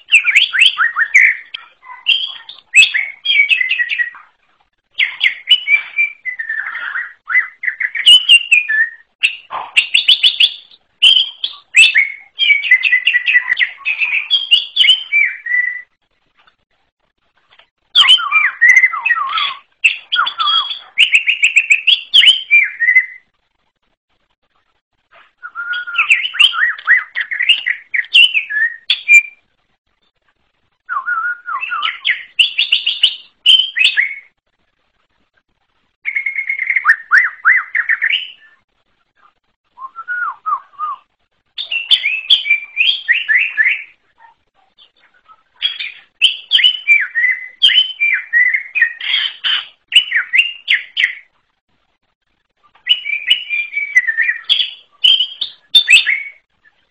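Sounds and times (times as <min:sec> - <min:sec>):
bird singing whistles and trills: 0:00.0 - 0:16.0, 0:17.9 - 0:23.3, 0:25.3 - 0:29.5, 0:30.8 - 0:34.4, 0:36.0 - 0:38.6, 0:39.7 - 0:44.0, 0:44.8 - 0:51.3, 0:52.6 - 0:56.9.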